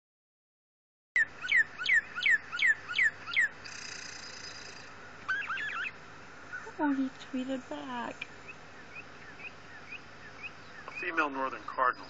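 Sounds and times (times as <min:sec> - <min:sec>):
parakeet chirping: 0:01.2 - 0:12.0.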